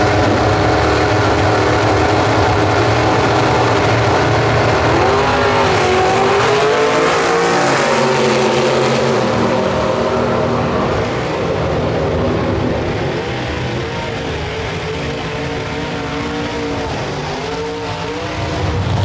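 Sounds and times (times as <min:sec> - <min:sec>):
drag racing car engines: 0:00.0 - 0:19.0.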